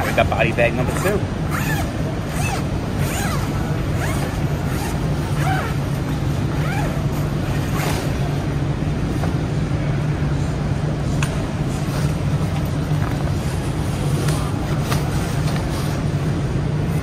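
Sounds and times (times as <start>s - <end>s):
rushing hall noise: 0.0s - 17.0s.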